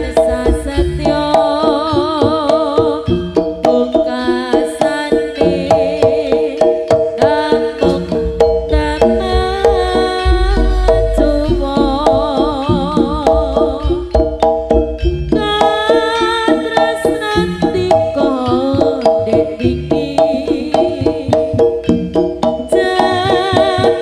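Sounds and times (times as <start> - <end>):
drums beating quick rhythm: 0.0 - 24.0
pitched ensemble tones: 0.0 - 24.0
wavering melody with vibrato: 0.0 - 24.0.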